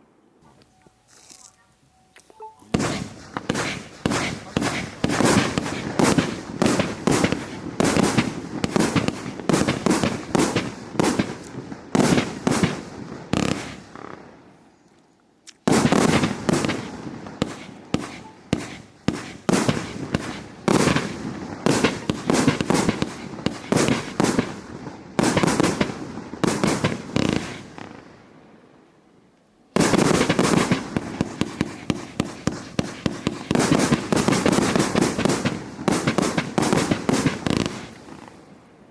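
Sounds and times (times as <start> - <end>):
fireworks bangs with crackling: 2.7 - 14.4, 15.6 - 28.2, 29.8 - 38.7.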